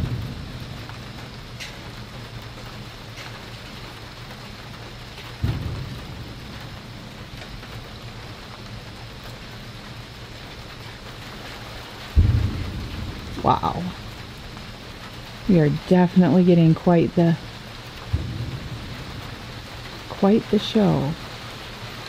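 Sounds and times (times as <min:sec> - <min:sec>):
pouring rain: 0:00.0 - 0:22.0
thunder clap rumbling: 0:00.0 - 0:22.0.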